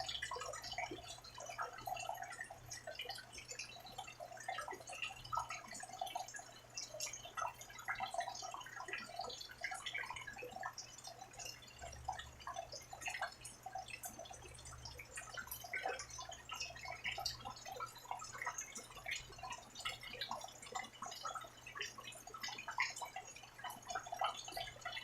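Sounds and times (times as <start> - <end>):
rain drips and droplet taps: 0.0 - 25.0.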